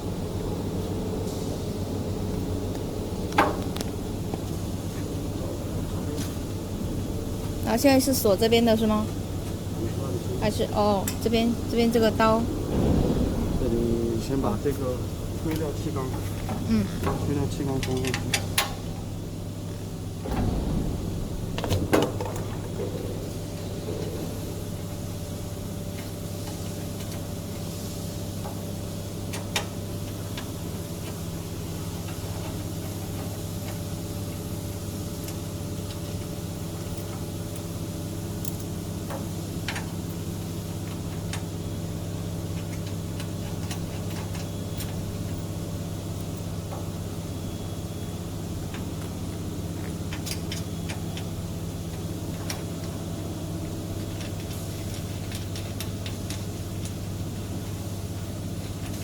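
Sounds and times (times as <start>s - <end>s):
factory machinery humming: 0.0s - 59.0s.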